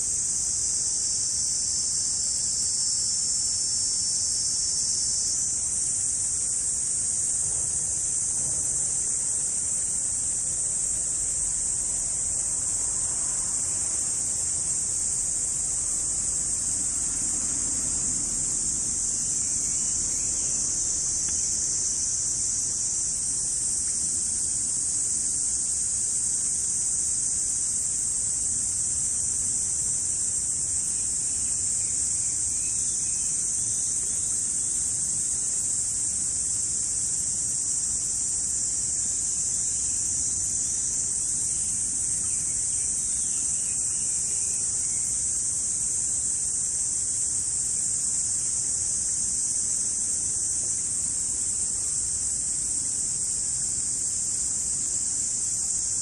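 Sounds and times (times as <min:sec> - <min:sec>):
insects buzzing: 0:00.0 - 0:56.0.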